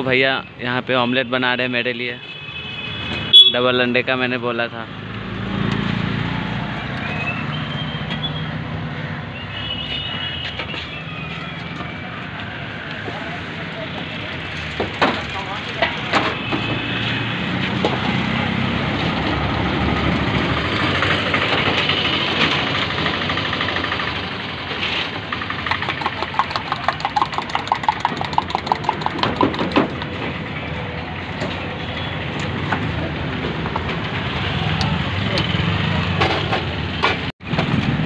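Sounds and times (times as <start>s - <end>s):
road traffic: 0.0s - 38.0s.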